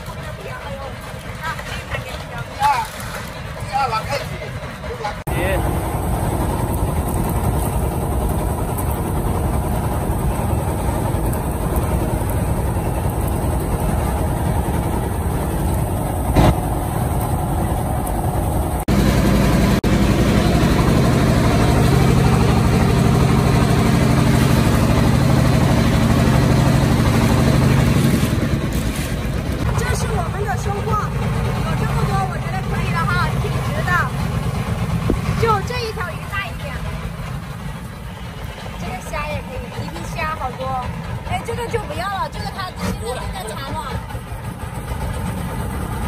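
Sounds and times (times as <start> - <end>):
boat engine humming: 0.0 - 46.0.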